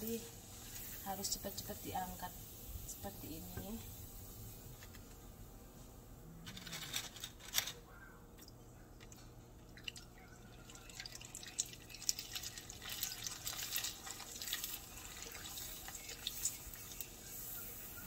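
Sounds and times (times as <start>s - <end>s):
crackers frying in oil: 0.0s - 5.3s, 6.5s - 18.0s.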